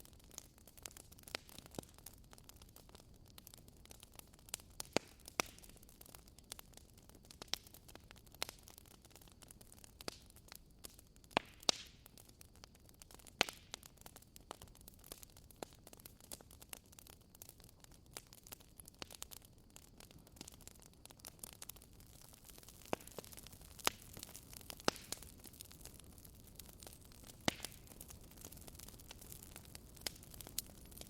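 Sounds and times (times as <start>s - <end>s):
low steady hiss: 0.0s - 31.0s
wood fire crackling: 0.0s - 31.0s.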